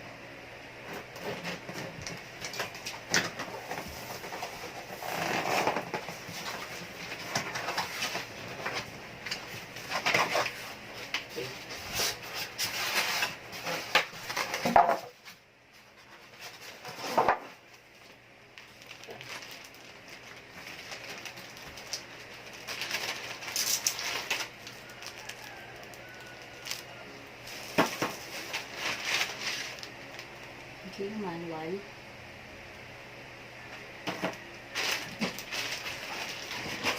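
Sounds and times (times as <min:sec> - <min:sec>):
packaging rustling and scraping: 0:00.8 - 0:30.5, 0:34.0 - 0:36.9.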